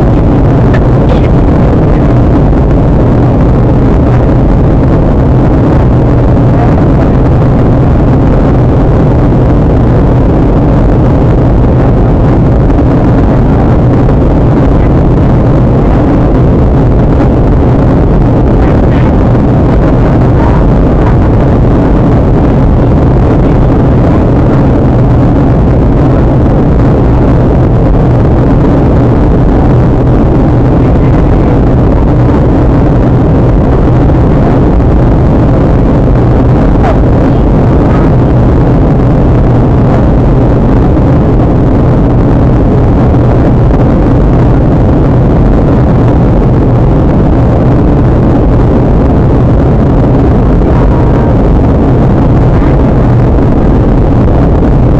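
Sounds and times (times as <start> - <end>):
airplane cabin drone: 0.0 - 54.9.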